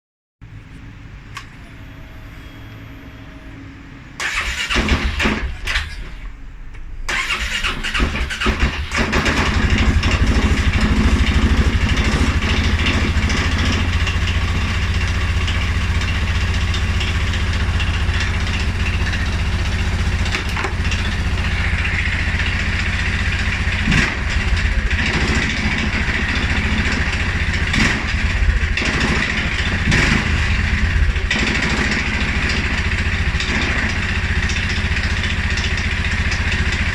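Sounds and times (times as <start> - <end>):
engine idling: 0.4 - 36.9
engine starting and stumbling: 0.4 - 36.9.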